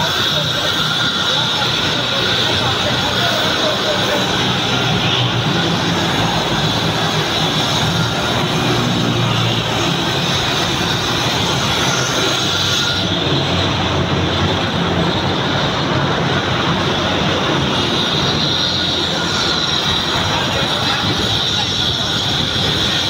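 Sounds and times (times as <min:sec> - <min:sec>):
road traffic in underpass: 0:00.0 - 0:23.0.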